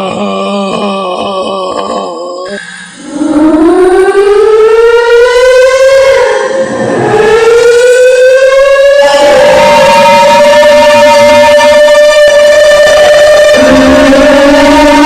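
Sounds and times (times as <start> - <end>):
siren wailing: 2.5 - 15.0.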